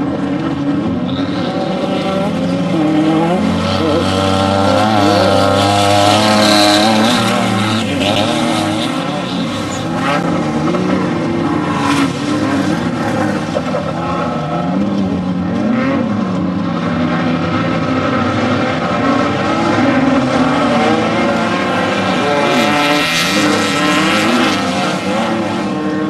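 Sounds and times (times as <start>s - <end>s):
race vehicle engines revving: 0.0s - 26.0s.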